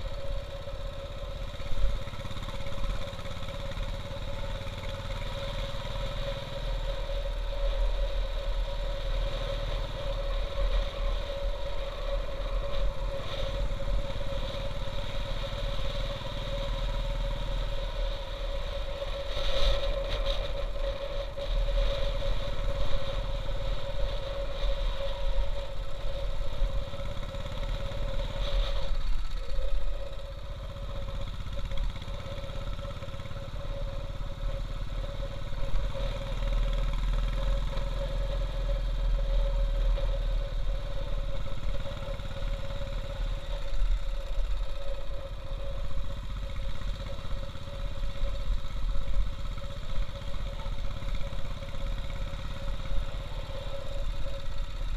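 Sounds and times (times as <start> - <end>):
motorcycle engine running: 0.0 - 54.9
tyres on rough gravel road: 0.0 - 54.9.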